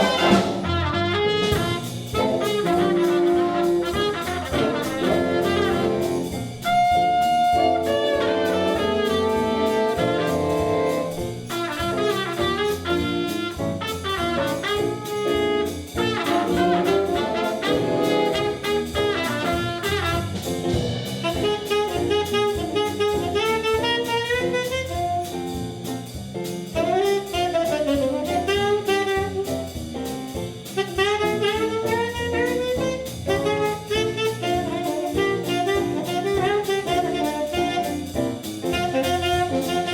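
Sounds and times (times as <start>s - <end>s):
saxophone and brass melody: 0.0s - 25.7s, 26.7s - 29.9s, 30.7s - 39.9s
drum kit beat: 0.0s - 39.9s.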